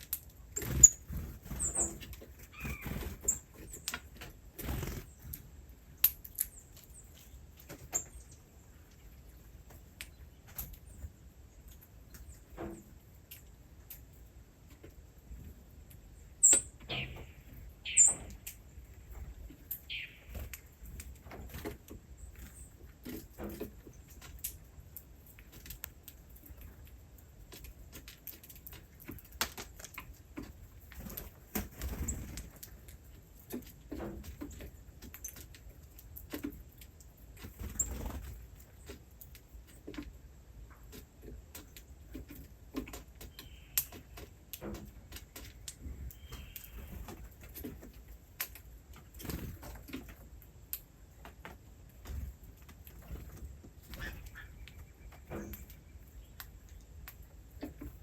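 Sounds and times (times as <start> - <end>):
small birds chirping: 0.0 - 51.3, 51.9 - 58.0.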